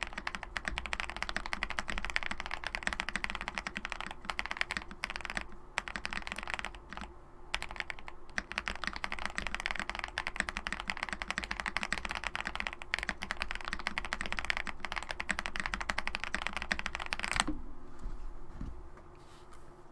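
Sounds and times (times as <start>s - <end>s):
fast typing on mechanical keyboard: 0.0s - 17.5s.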